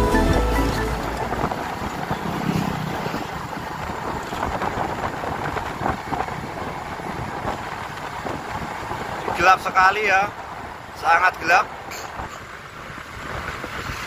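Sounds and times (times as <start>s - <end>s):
moving vehicle road noise: 0.0s - 14.0s
wind buffeting microphone: 0.9s - 14.0s.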